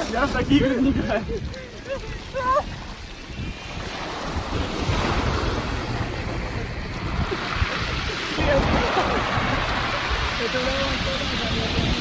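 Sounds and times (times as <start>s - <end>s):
sea surf on pebble shore: 0.0s - 12.0s
wind rumbling on microphone: 0.0s - 12.0s.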